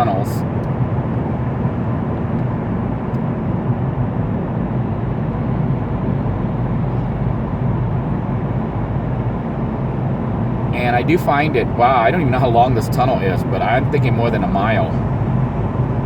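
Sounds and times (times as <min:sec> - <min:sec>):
van road and engine rumble: 0:00.0 - 0:16.0.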